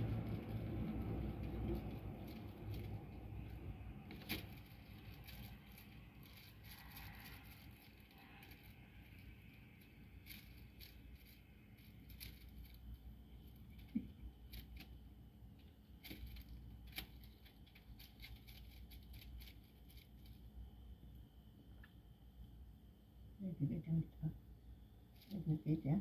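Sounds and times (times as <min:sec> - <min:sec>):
foil cat toy rustling: 0:00.0 - 0:20.8, 0:25.0 - 0:26.0
low steady rumble: 0:00.0 - 0:26.0.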